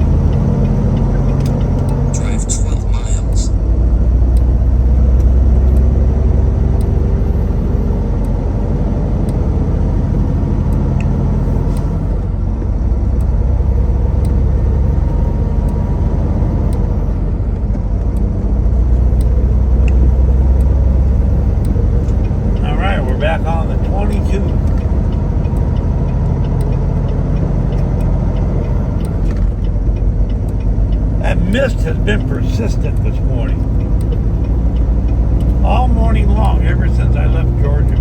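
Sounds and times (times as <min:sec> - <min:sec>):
road noise inside cab: 0:00.0 - 0:38.0
truck diesel engine drone: 0:00.0 - 0:38.0.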